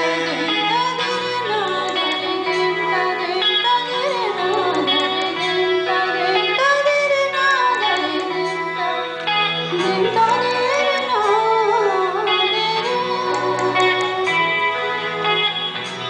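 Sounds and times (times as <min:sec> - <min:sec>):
person singing wavering melody: 0:00.0 - 0:14.7
electric guitar: 0:00.0 - 0:16.0.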